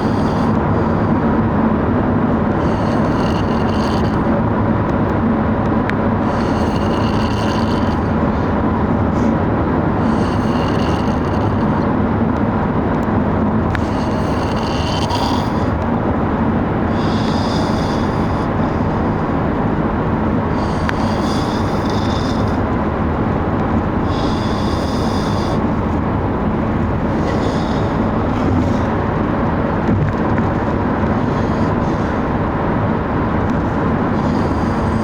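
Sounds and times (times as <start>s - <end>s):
man snoring: 0.0s - 4.6s, 5.9s - 12.3s, 13.1s - 32.5s, 33.2s - 35.0s
vehicle road rumble: 0.0s - 35.0s.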